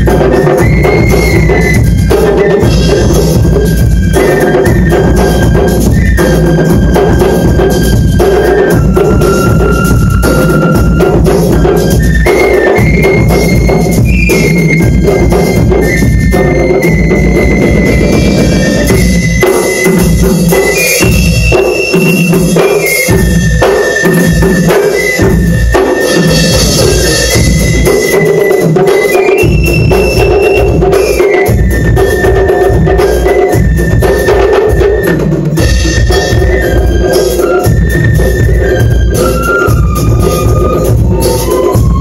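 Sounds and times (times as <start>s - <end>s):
bass drum and snare beat: 0.0s - 42.0s.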